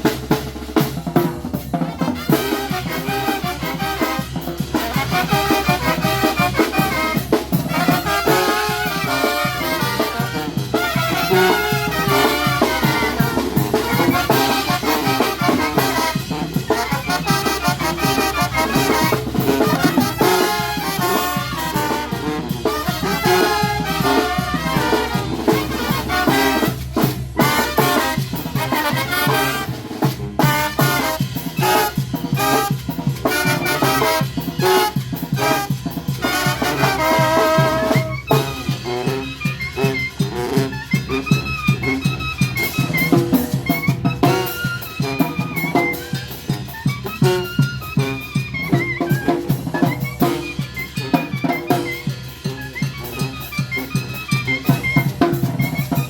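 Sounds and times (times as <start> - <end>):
brass band playing: 0.0 - 56.0
steady percussion beat: 0.0 - 56.0
trumpets and trombones: 0.0 - 56.0.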